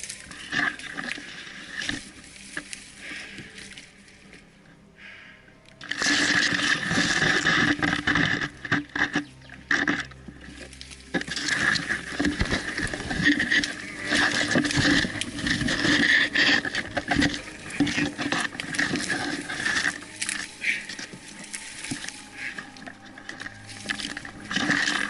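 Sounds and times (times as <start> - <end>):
rustling through leaves and brush: 0.0 - 25.0.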